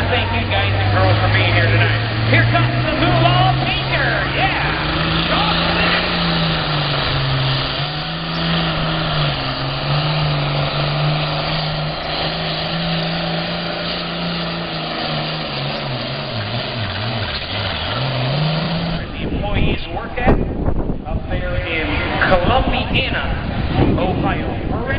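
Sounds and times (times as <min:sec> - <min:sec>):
diesel tractor engine running hard: 0:00.0 - 0:24.9.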